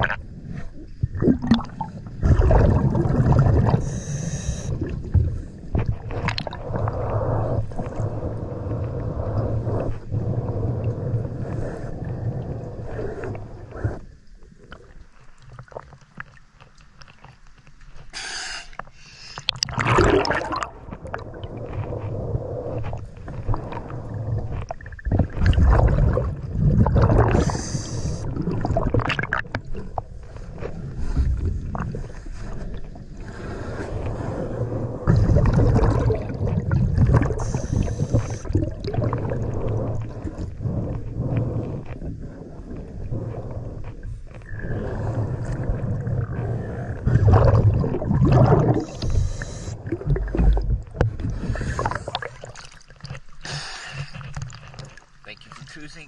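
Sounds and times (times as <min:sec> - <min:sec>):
exhaled bubbles gurgling underwater: 0:00.0 - 0:16.6, 0:19.4 - 0:55.3.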